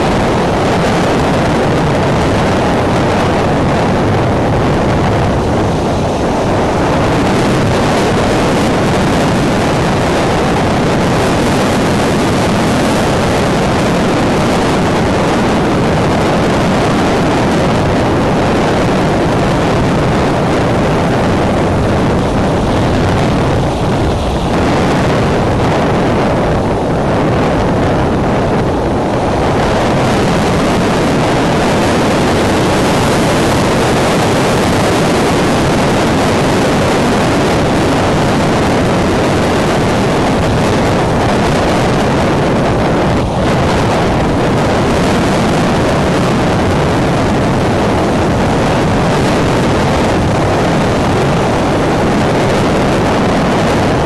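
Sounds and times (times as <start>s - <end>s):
strong wind on microphone: 0.0s - 54.0s.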